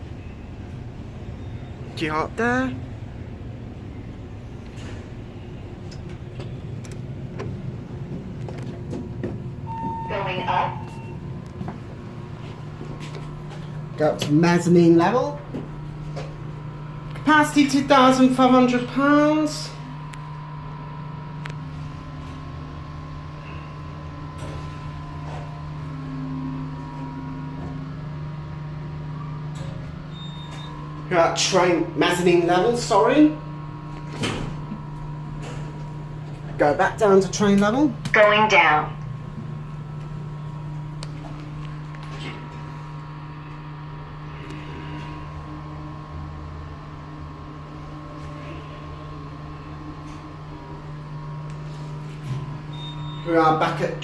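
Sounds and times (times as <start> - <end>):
elevator drive humming: 0.0 - 54.0.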